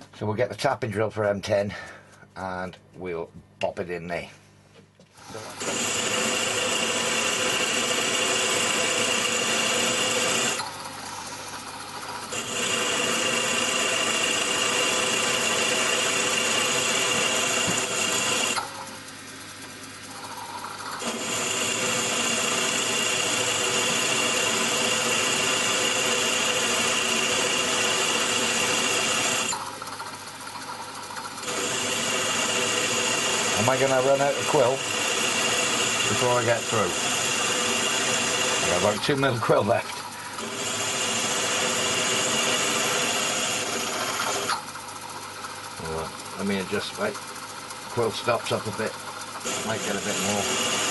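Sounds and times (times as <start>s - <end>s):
drill whining cutting metal: 5.2s - 18.8s, 20.6s - 29.8s, 31.2s - 50.9s.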